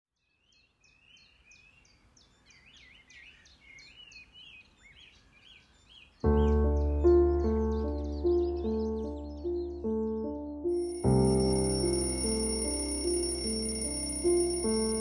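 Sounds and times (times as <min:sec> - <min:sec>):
high chirping calls: 0:01.6 - 0:15.0.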